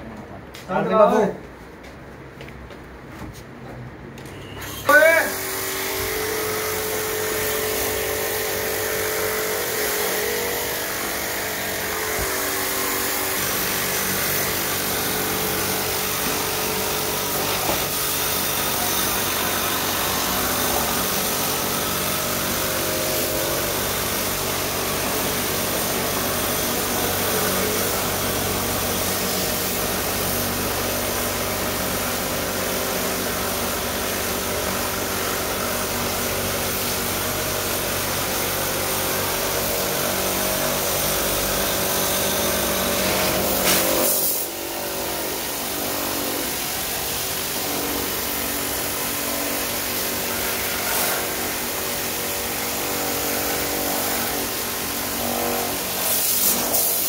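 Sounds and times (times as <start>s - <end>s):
pressure washer spraying water: 4.6s - 57.0s.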